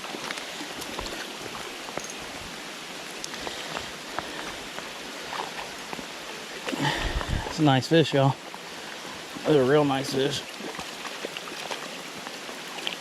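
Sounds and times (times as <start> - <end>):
steady rain hissing: 0.0 - 10.8
creek flowing: 0.0 - 13.0.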